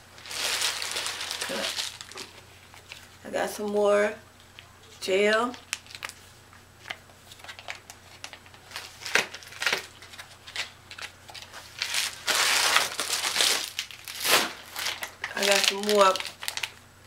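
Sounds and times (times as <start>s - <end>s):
plastic packaging crinkling: 0.1s - 3.1s, 5.4s - 16.8s.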